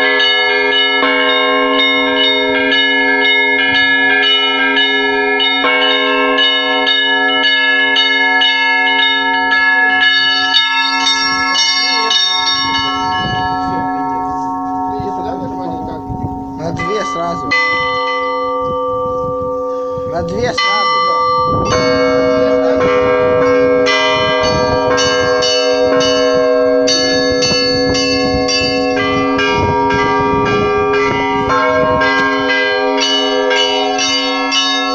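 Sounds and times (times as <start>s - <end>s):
hand bells struck: 0.0s - 34.9s
low bell tone humming: 0.0s - 34.9s.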